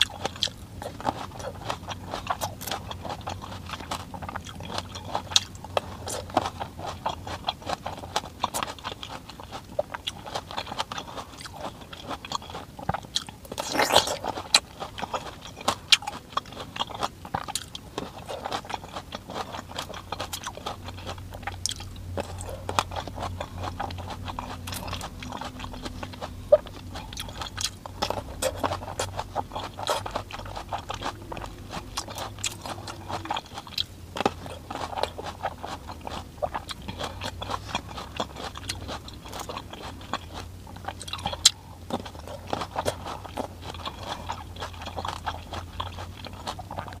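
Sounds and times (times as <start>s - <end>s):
person chewing crisp grapes: 0.0s - 47.0s
steady low hum: 0.0s - 47.0s.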